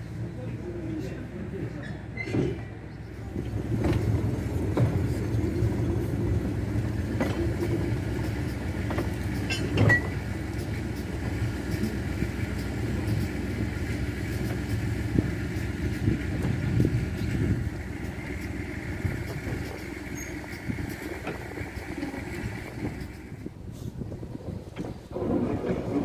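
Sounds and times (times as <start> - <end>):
diesel locomotive engine running: 0.0 - 26.0
train knocks and clanks: 0.0 - 26.0.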